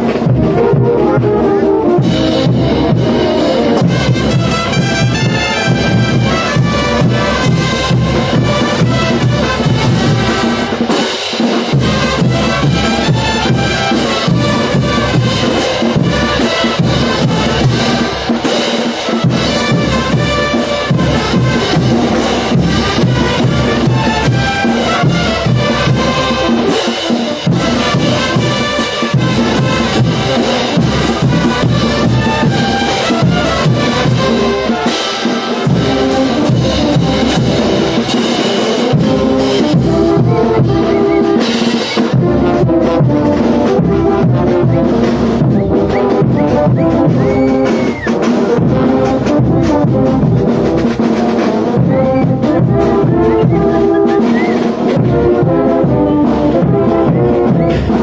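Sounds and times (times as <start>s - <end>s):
bass drum and snare beat: 0.0s - 58.0s
brass melody: 0.0s - 58.0s.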